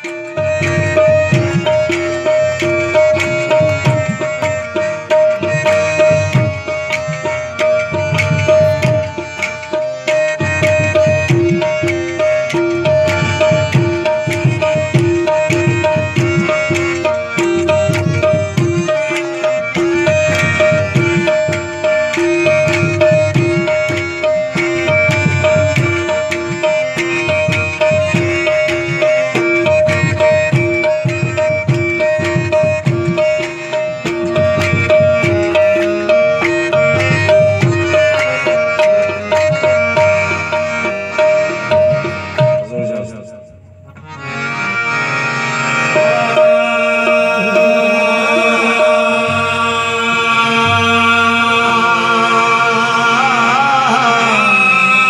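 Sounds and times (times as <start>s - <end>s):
harmoniums playing: 0.0s - 55.0s
tabla rhythm: 0.0s - 55.0s.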